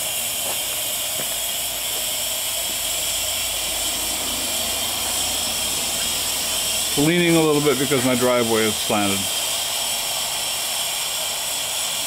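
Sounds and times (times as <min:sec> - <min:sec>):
steam hissing from boiler: 0:00.0 - 0:12.0.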